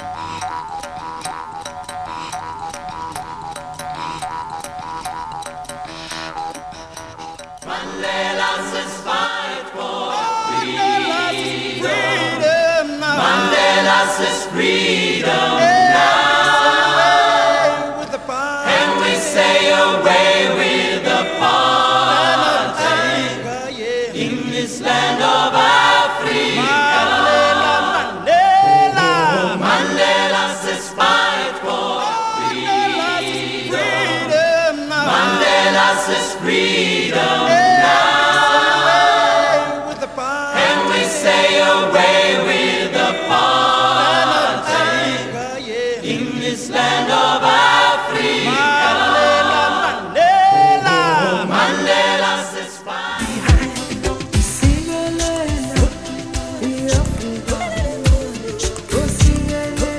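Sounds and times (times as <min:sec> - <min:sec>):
choir singing a cappella: 0:07.6 - 0:59.9.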